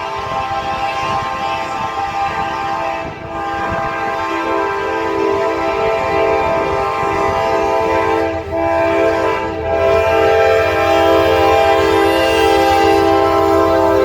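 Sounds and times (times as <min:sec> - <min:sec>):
locomotive air horn blast: 0:00.0 - 0:14.0
low rumble of train: 0:00.0 - 0:14.0.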